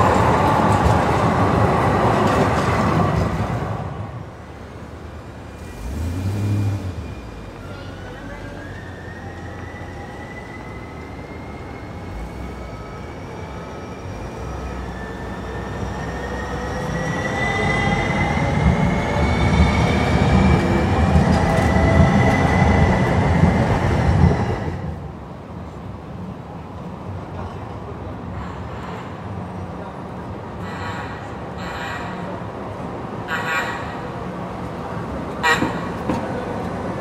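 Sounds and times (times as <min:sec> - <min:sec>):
tram wheel and rail rumble: 0:00.0 - 0:37.0.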